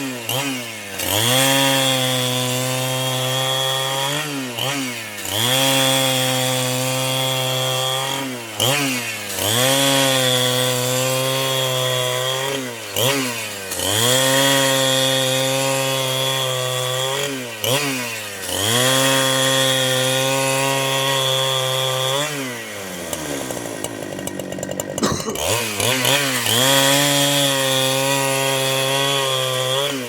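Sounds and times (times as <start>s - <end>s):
chainsaw sawing through wood: 0.0s - 30.0s.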